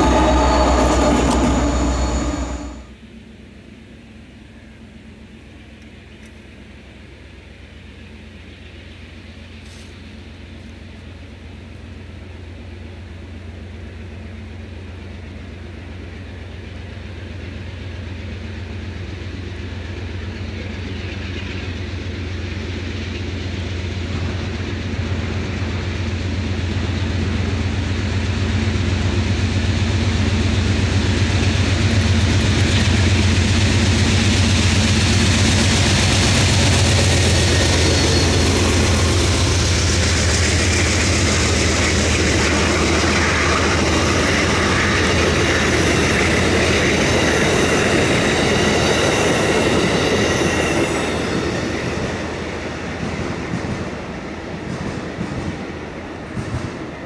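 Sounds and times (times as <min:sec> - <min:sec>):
train wheels rolling on rails: 0:00.0 - 0:02.9, 0:07.6 - 0:57.0
low locomotive drone: 0:00.0 - 0:57.0.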